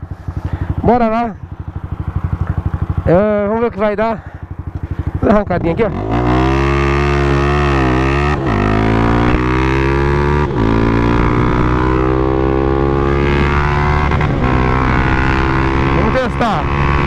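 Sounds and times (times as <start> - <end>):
motorcycle engine accelerating hard: 0.0 - 17.0.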